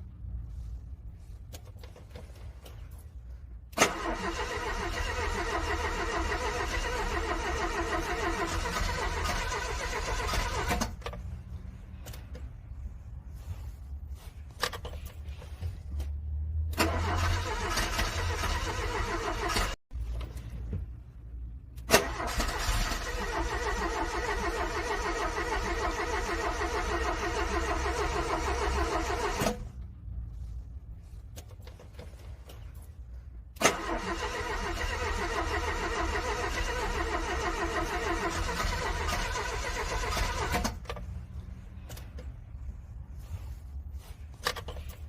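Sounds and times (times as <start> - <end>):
car engine cranking: 1.3 - 12.9, 14.6 - 21.0, 21.7 - 32.9, 33.5 - 45.0.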